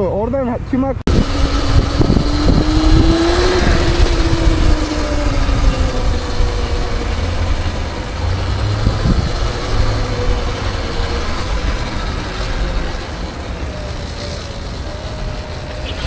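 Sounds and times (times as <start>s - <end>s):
motorcycle engine running: 1.1s - 16.0s
wind on microphone: 1.1s - 16.0s.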